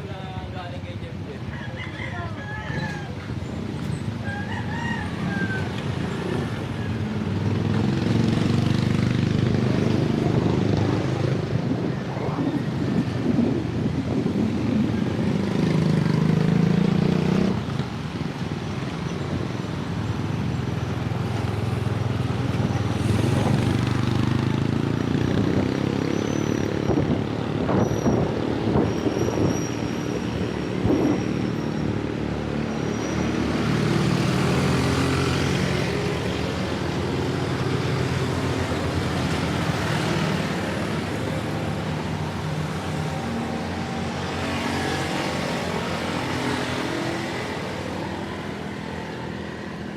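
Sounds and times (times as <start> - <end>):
car and truck engines: 2.8 - 49.9.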